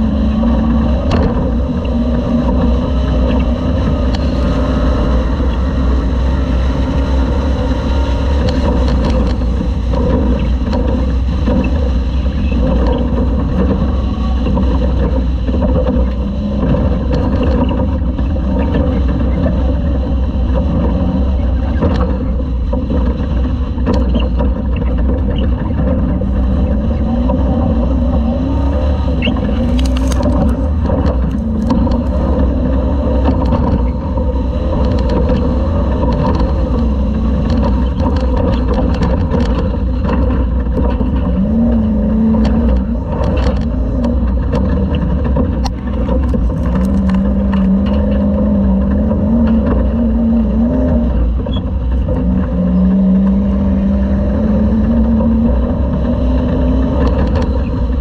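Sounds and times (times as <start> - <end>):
heavy low rumble: 0.0 - 58.0
knocks and rattles: 0.0 - 58.0
race truck engine revving: 0.0 - 58.0.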